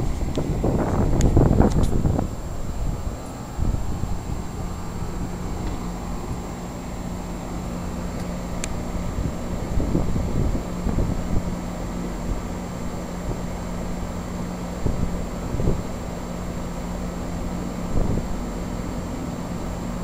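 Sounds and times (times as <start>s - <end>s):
condenser fan noise: 0.0s - 20.0s
heat pump compressor hum: 0.0s - 20.0s.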